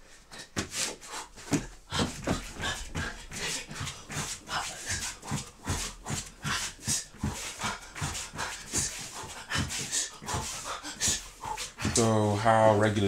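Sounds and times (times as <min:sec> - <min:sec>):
man panting hard: 0:00.0 - 0:12.7
feet thudding on rubber mat: 0:00.6 - 0:12.1.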